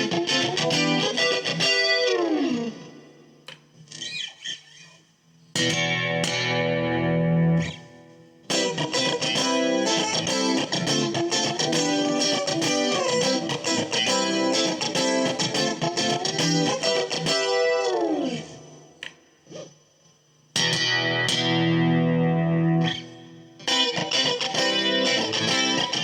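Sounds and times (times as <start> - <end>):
clean electric guitar: 0.0 - 19.7, 20.6 - 26.0.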